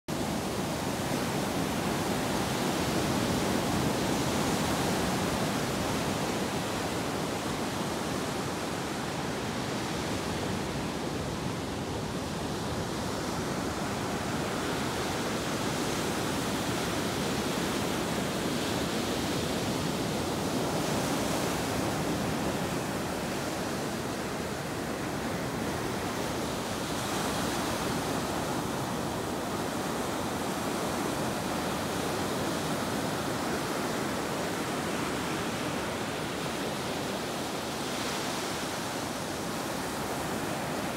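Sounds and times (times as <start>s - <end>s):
surf washing up a beach: 0.1s - 40.9s.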